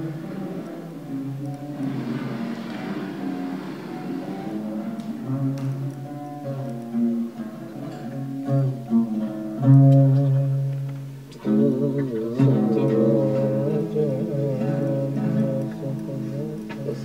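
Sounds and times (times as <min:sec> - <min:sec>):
plucked string instrument: 0:00.0 - 0:17.0.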